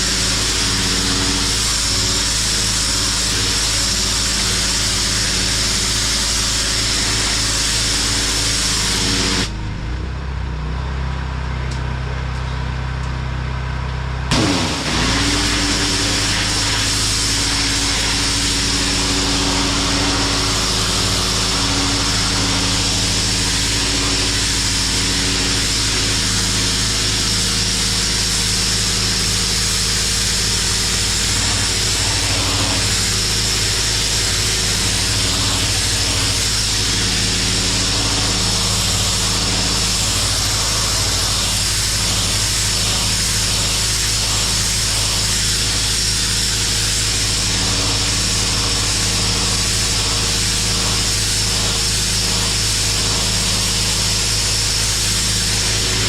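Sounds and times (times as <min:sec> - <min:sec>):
water jet hissing on concrete: 0:00.0 - 0:09.6, 0:14.3 - 0:56.0
pressure washer motor hum: 0:00.0 - 0:10.2, 0:11.6 - 0:56.0.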